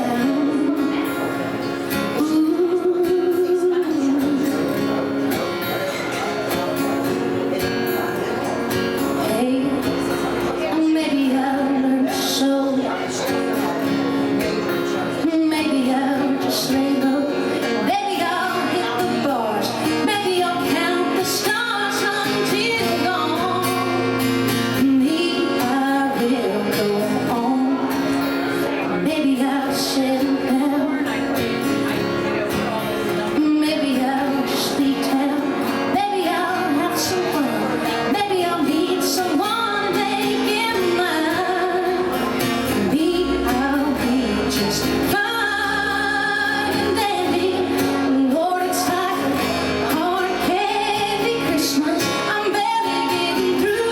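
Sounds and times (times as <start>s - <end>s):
woman singing: 0.0s - 5.0s, 9.0s - 13.4s, 14.9s - 31.4s, 33.3s - 53.9s.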